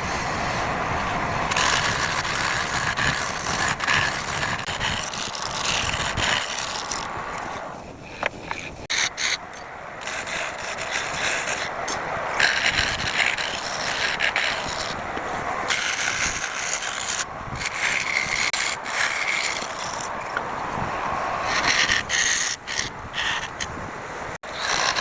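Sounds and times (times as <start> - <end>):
tool scraping wood on a lathe: 1.5 - 20.5, 21.4 - 23.7, 24.4 - 25.0.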